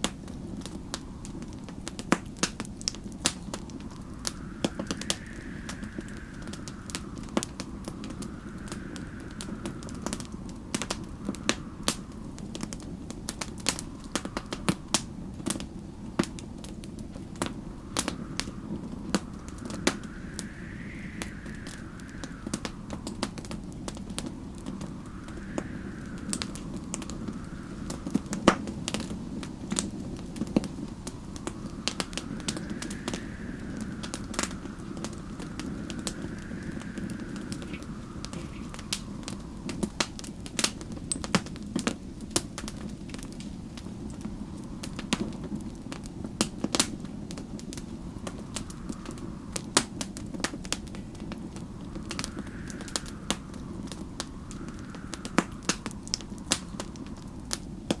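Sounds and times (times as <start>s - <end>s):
wind whistling in gusts: 0.0s - 58.0s
wood fire crackling and popping: 0.0s - 58.0s.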